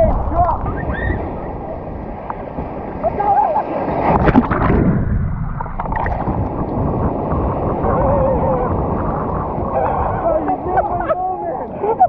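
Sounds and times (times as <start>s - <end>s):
churning gurgling whitewater: 0.0s - 12.0s
wave splashing: 0.0s - 12.0s.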